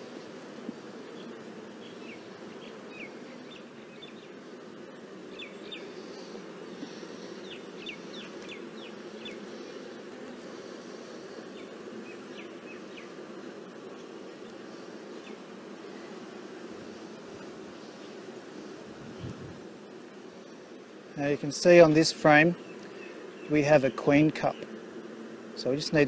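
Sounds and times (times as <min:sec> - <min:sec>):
bees humming: 0:00.0 - 0:26.0.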